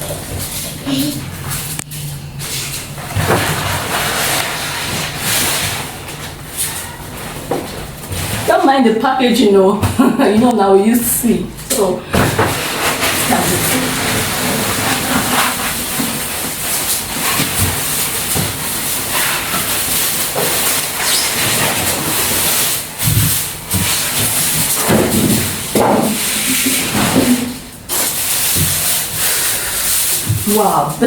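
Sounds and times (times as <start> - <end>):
rustling and scraping wrapping: 0.0 - 8.9, 12.2 - 31.0.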